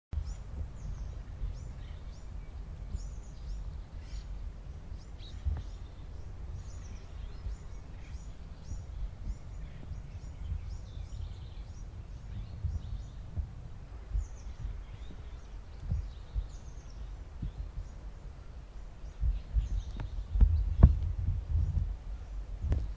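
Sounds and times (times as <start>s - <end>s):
low outdoor rumble: 0.2s - 22.9s
small birds chirping: 0.2s - 22.9s.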